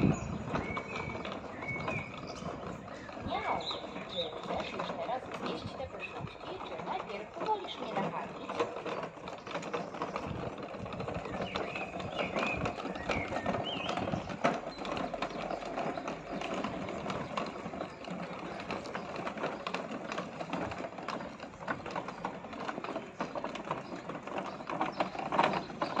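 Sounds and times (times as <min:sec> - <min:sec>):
small wheels rattling over cobblestones: 0:00.0 - 0:26.0.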